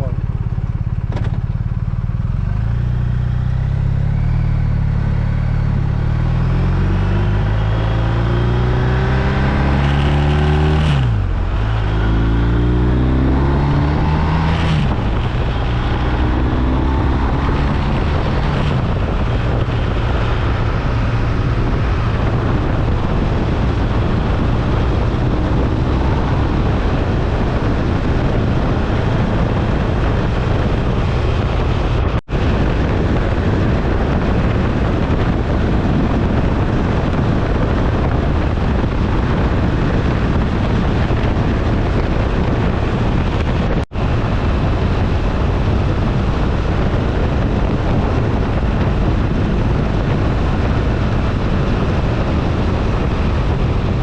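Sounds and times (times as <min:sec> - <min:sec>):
motorcycle engine accelerating: 0:00.0 - 0:54.0
wind rush: 0:02.0 - 0:54.0.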